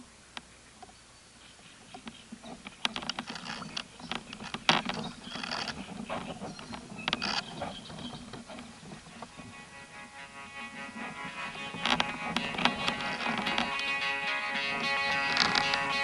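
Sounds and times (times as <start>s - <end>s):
rustling through dry reeds: 0.0s - 16.0s.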